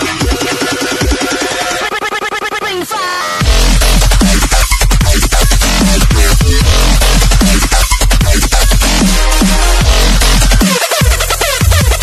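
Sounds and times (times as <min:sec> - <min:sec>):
electronic music with synth and bass: 0:00.0 - 0:12.0.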